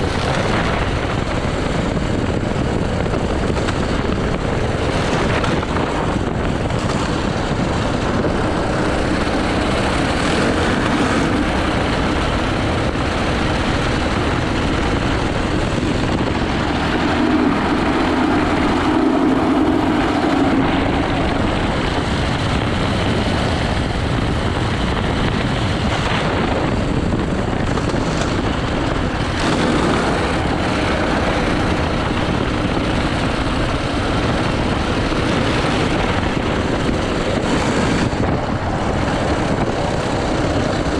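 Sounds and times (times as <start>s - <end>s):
kart engine running hard: 0.0s - 40.9s
wind rushing over microphone: 0.0s - 40.9s.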